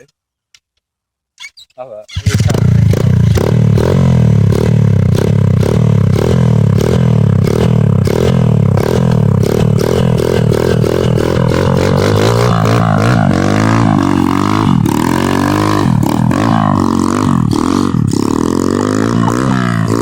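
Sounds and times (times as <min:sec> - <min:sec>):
pit bike engine running: 0:02.3 - 0:20.0.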